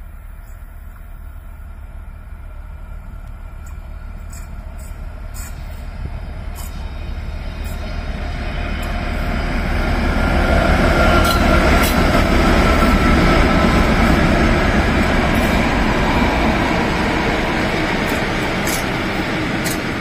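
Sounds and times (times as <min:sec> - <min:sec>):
diesel locomotive engine drone: 0:00.0 - 0:20.0
wheels rumbling on rail: 0:00.0 - 0:20.0.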